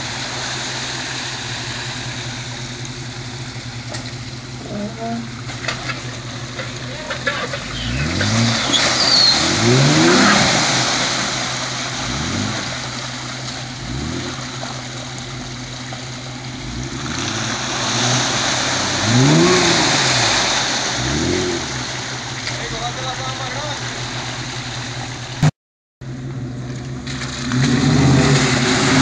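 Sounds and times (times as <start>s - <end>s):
car engine revving: 0.0s - 25.5s, 26.1s - 29.0s
mud and water splashing: 0.0s - 25.5s, 26.1s - 29.0s.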